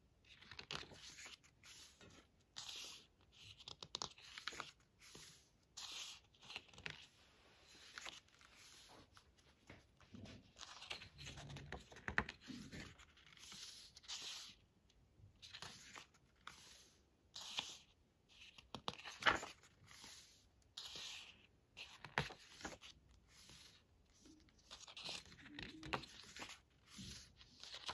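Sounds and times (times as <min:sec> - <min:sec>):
book pages turning: 0:00.2 - 0:14.6, 0:15.3 - 0:27.9.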